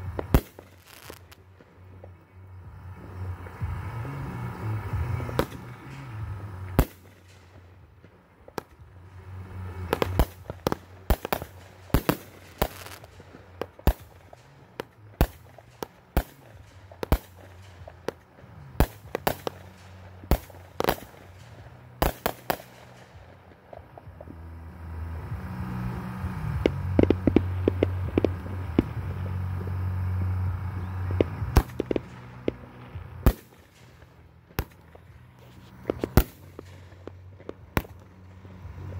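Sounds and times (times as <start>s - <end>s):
firework shells bursting: 0.0s - 1.9s, 4.3s - 24.4s, 26.2s - 38.9s
steady low hum: 0.0s - 38.9s.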